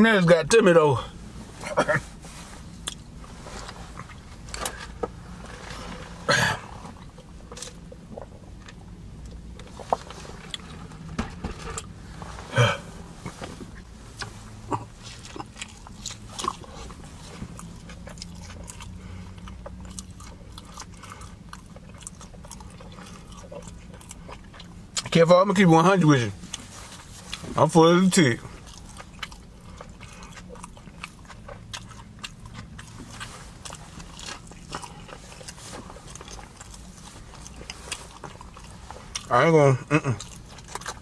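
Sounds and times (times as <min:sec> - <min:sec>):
steady low hum: 0:00.0 - 0:41.0
person chewing with wet smacking: 0:02.6 - 0:06.0, 0:06.8 - 0:12.0, 0:13.2 - 0:41.0.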